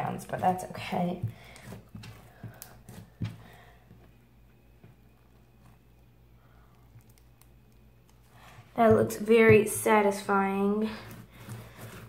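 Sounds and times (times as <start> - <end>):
slime squishing: 0.0 - 9.8, 10.8 - 12.0
faint steady hum: 0.0 - 12.0.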